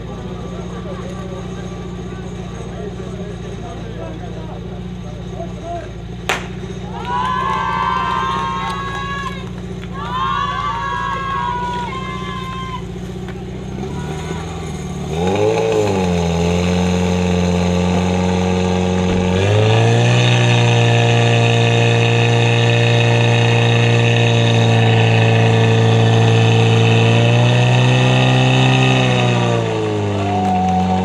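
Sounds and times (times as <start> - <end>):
fire pump engine revving: 0.0 - 31.0.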